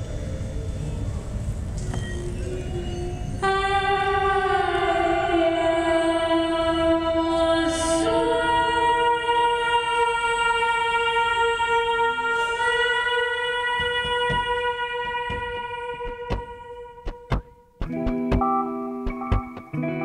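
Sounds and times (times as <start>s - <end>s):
ambient music with held notes: 0.0s - 20.0s.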